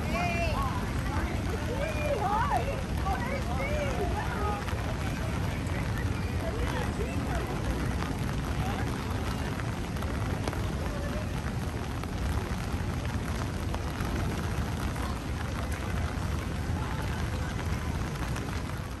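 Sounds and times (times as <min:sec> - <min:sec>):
rain on wet pavement: 0:00.0 - 0:19.0.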